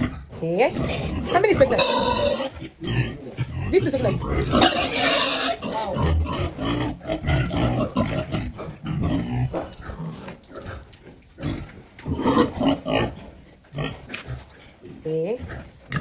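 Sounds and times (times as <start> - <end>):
pigs grunting and snorting: 0.0 - 16.0.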